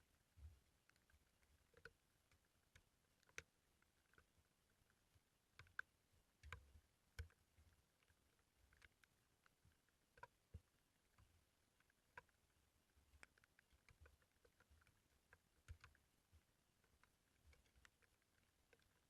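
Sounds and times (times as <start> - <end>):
faint clicks and taps: 0.0 - 19.0.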